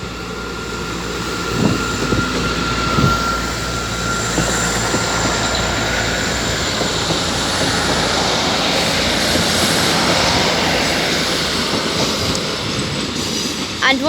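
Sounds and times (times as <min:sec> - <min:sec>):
thin steady whine: 0:00.0 - 0:11.7
diesel train engines droning: 0:00.0 - 0:14.0
rail and wheel noise: 0:00.0 - 0:14.0.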